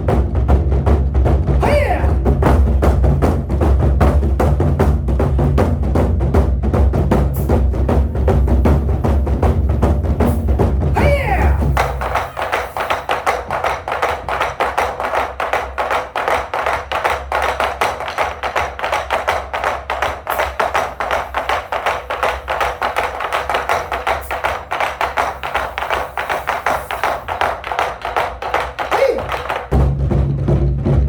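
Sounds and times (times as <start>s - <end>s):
drums playing galloping rhythm: 0.0s - 31.0s.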